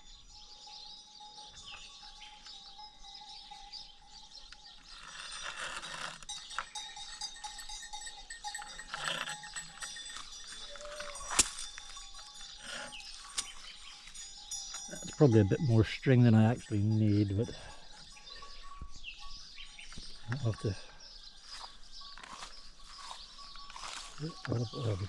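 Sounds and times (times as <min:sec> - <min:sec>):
small bells ringing: 0:00.0 - 0:25.0.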